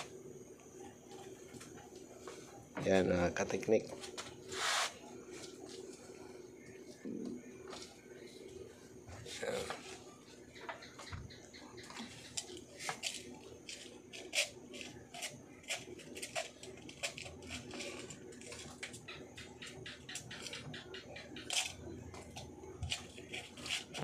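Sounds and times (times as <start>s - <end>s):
refrigerator compressor hum: 0.0s - 24.0s.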